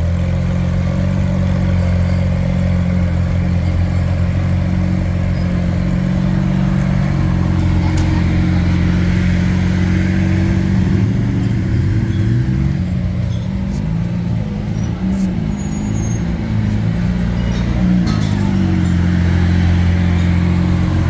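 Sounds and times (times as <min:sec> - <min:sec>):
car engine running at low revs: 0:00.0 - 0:21.0.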